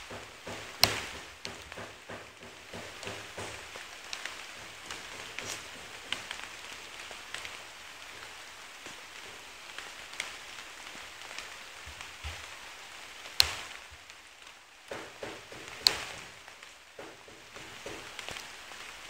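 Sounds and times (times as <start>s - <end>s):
steady soft hiss: 0.0s - 19.0s.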